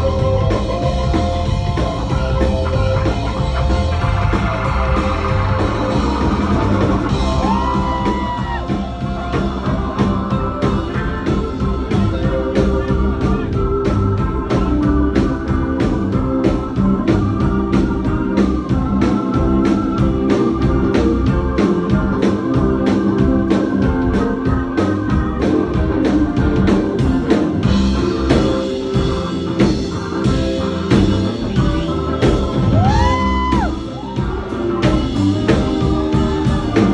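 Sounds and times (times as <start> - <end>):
bass: 0.0 - 36.9
drumbeat: 0.0 - 36.9
organ keyboard solo: 0.0 - 36.9.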